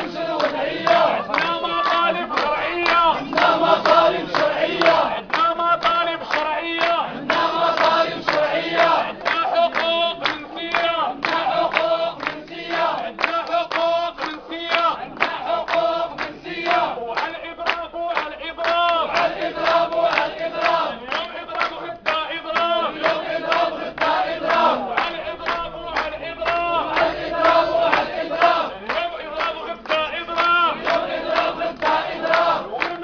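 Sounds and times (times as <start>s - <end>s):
crowd chanting slogans: 0.0s - 33.0s.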